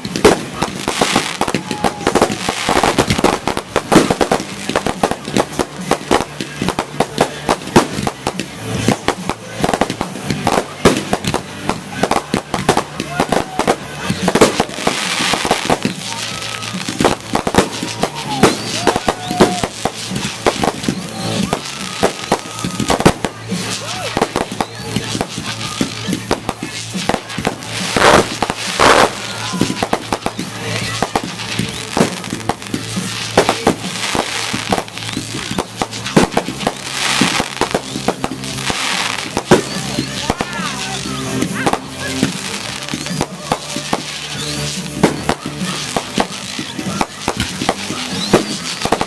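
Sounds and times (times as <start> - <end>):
background music: 0.0 - 49.0
fireworks bangs and crackles: 0.0 - 49.0
voices: 0.0 - 49.0.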